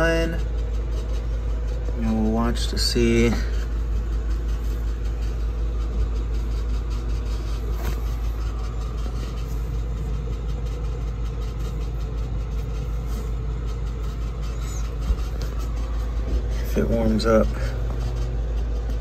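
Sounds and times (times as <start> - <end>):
machine motor rumbling: 0.0 - 19.0.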